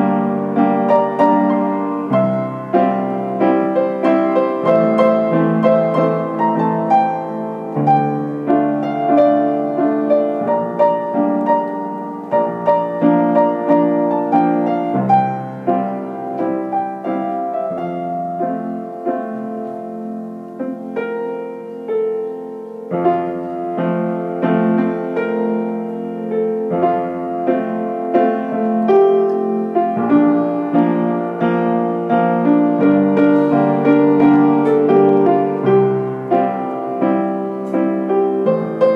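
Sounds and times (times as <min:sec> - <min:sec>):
solo piano: 0:00.0 - 0:38.9.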